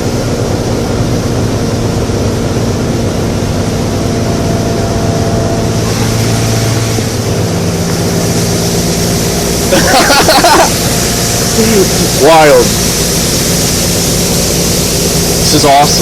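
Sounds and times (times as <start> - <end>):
boat motor running: 0.0 - 16.0
rush of wind and water: 0.0 - 16.0.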